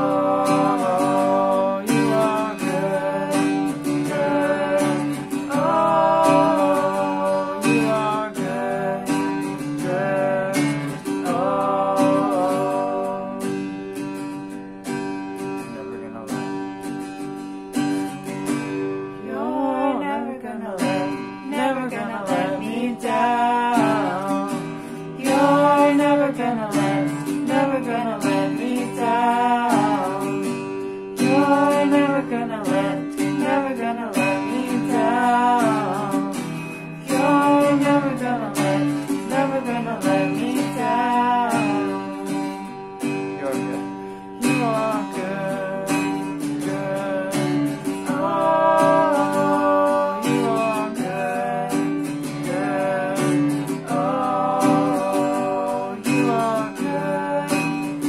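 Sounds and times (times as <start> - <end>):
man and woman singing: 0.0 - 17.0, 18.0 - 58.0
acoustic guitar strumming: 0.0 - 58.0.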